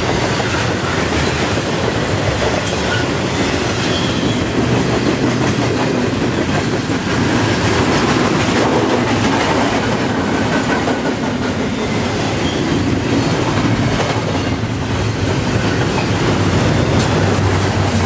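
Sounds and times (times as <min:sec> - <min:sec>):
freight train rolling past: 0:00.0 - 0:18.0
steel wheels on rails: 0:00.0 - 0:18.0.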